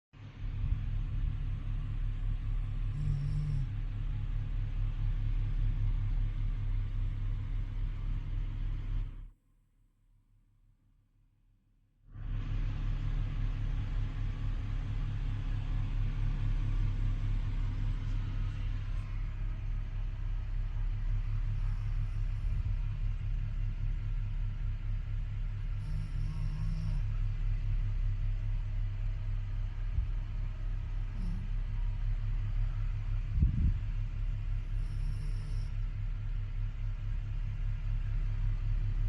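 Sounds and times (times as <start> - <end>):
steady low rumble: 0.2 - 9.4, 12.2 - 39.0.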